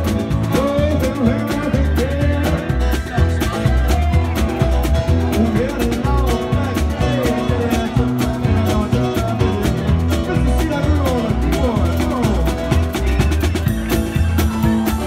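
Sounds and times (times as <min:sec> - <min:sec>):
driving bass line: 0:00.0 - 0:15.0
guitar bent notes: 0:00.0 - 0:15.0
live band playing upbeat song: 0:00.0 - 0:15.0.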